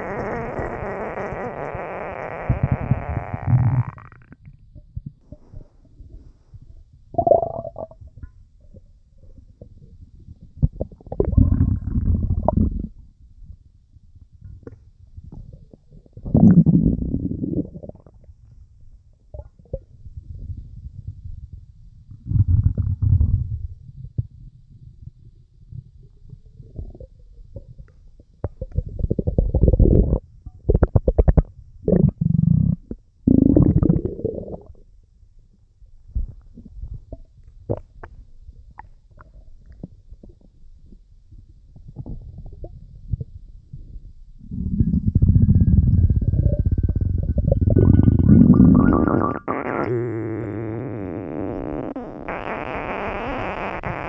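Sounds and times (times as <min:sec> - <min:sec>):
stomach rumbling and gurgling: 0:00.0 - 0:54.0.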